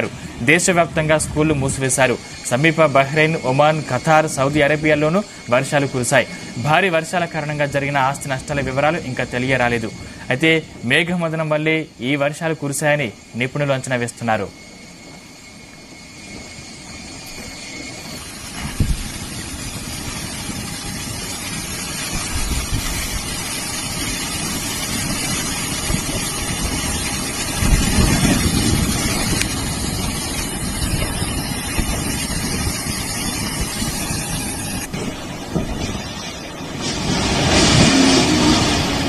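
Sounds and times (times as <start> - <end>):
wind buffeting microphone: 0.0 - 11.8, 14.6 - 39.0
storm wind and heavy rain: 0.0 - 39.0.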